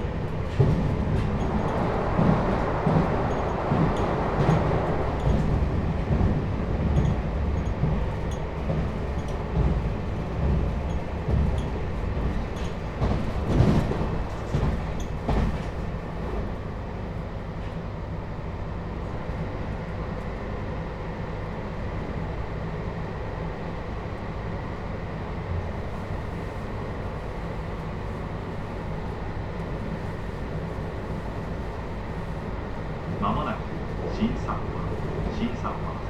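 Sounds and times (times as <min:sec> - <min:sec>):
train rolling noise: 0:00.0 - 0:36.0.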